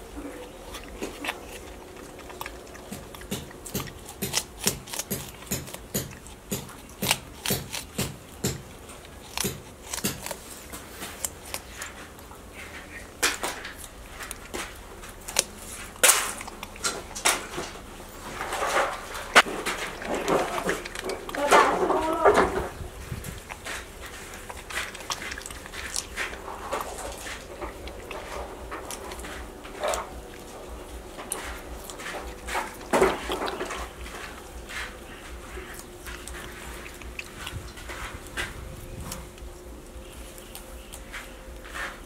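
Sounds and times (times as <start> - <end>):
porcupine crunching watermelon: 0.0 - 42.0.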